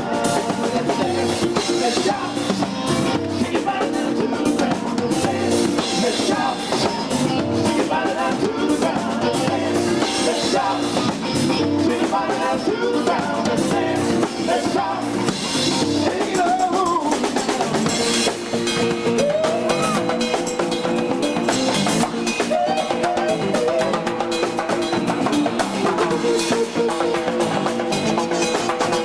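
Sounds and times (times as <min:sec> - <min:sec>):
person singing: 0:00.0 - 0:18.0, 0:18.8 - 0:20.4, 0:22.2 - 0:24.7, 0:25.8 - 0:29.0
drum kit steady beat: 0:00.0 - 0:29.0
live band music: 0:00.0 - 0:29.0.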